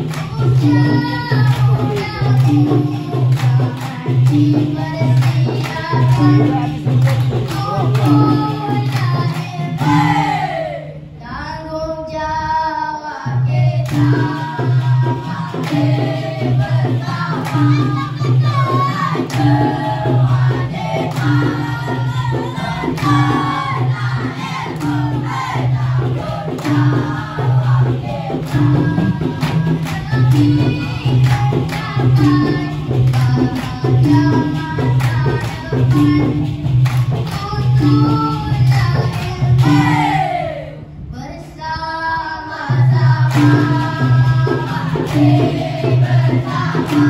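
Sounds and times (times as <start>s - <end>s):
chorus of boys singing: 0.0s - 11.0s, 13.1s - 40.9s, 42.3s - 47.0s
repeating percussion beat: 0.0s - 11.2s, 13.2s - 41.0s, 42.6s - 47.0s.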